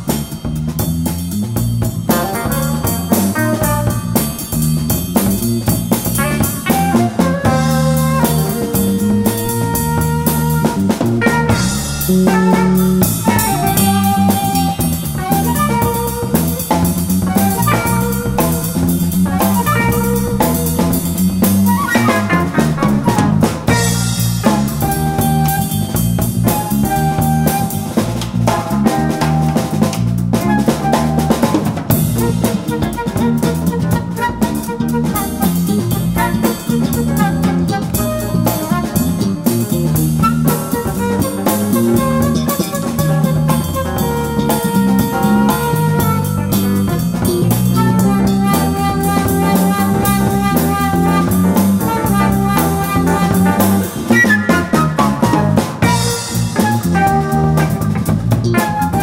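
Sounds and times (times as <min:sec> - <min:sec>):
jazz-funk band playing: 0:00.0 - 0:59.0.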